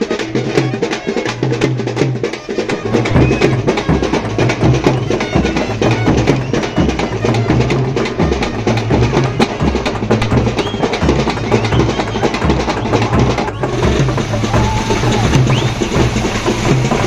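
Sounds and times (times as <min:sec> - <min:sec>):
busy percussion clatter: 0:00.0 - 0:17.0
loud drum-driven music: 0:00.1 - 0:17.0
steady deep drum beat: 0:02.7 - 0:17.0.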